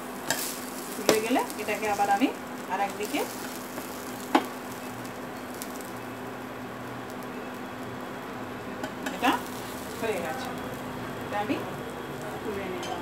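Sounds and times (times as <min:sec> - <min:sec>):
bread sizzling on a griddle: 0:00.0 - 0:13.0.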